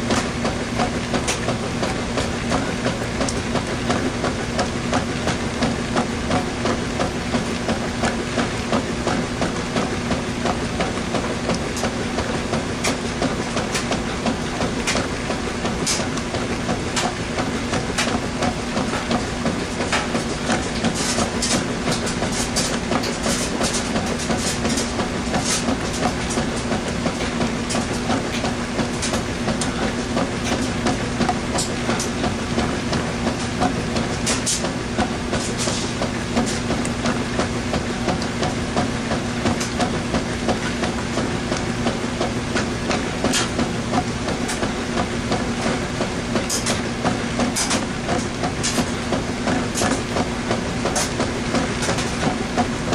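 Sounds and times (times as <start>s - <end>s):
drum clicking and rattling: 0.0s - 52.9s
washing machine motor hum: 0.0s - 52.9s.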